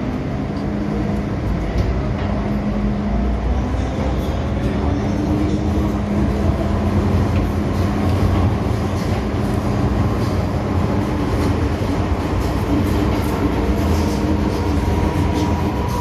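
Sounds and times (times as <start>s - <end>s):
steady hum: 0.0s - 16.0s
train wheels rumbling on rails: 0.0s - 16.0s.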